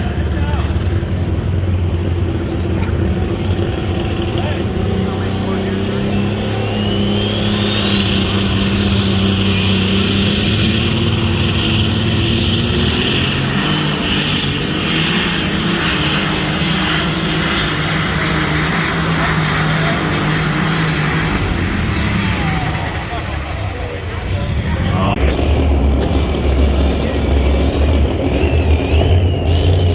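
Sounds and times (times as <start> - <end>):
high engine whine: 0.0 - 29.9
pulling vehicle engine drone: 0.0 - 29.9.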